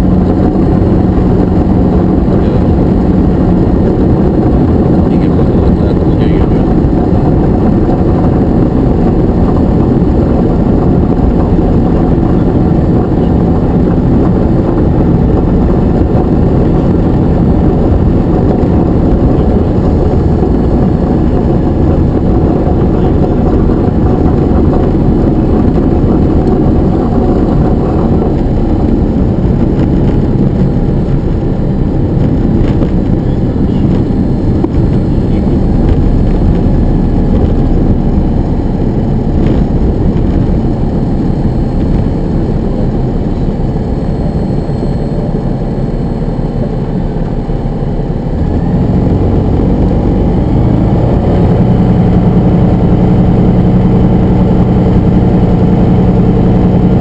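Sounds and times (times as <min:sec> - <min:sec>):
aircraft propeller engine running: 0:00.0 - 0:57.0.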